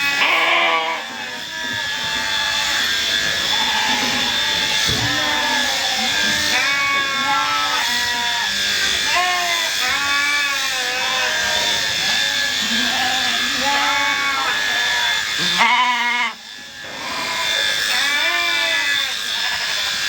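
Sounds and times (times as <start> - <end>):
electric clippers whining: 0.0 - 20.0
sheep bleating: 0.0 - 20.0.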